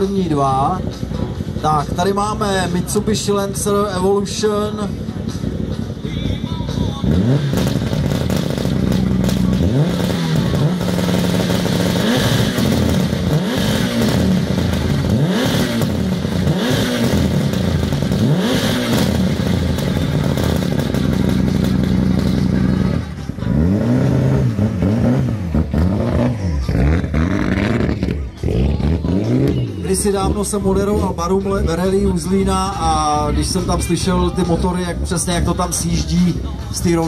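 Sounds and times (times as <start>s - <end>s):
car engine idling: 0.0s - 37.0s
car engine revving: 0.0s - 37.0s.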